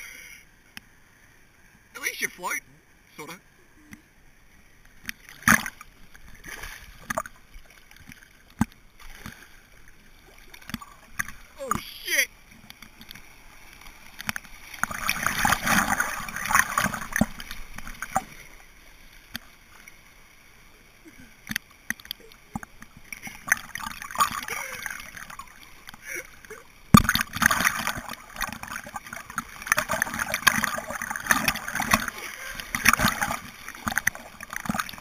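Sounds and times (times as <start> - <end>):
river water splashing and gurgling: 1.8 - 35.0.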